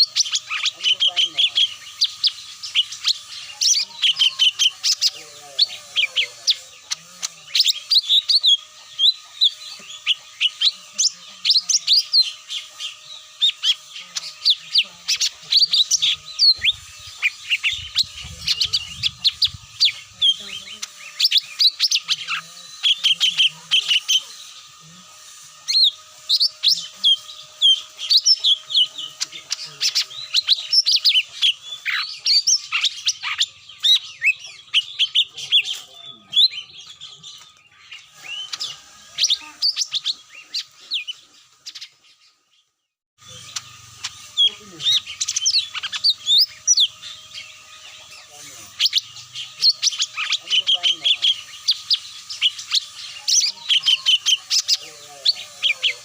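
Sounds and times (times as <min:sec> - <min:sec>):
high sharp bird chirps: 0:00.0 - 0:42.6, 0:43.2 - 0:56.0.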